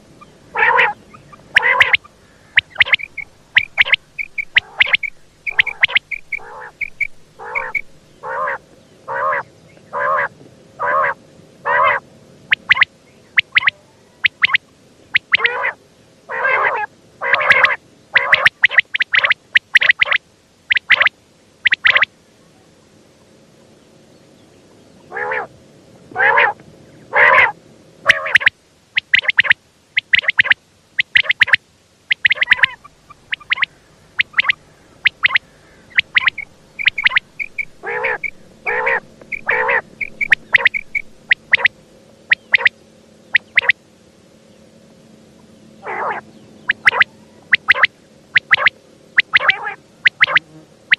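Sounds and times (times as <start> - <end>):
quail calling: 0.0 - 22.1, 25.1 - 25.5, 26.1 - 43.8, 45.8 - 50.5.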